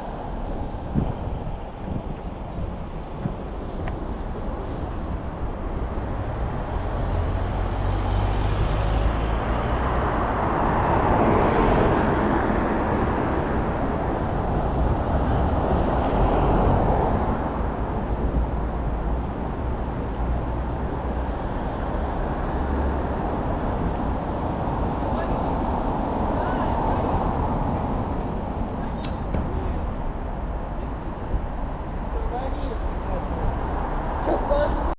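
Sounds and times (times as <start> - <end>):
vehicles passing close by: 0.0 - 34.9.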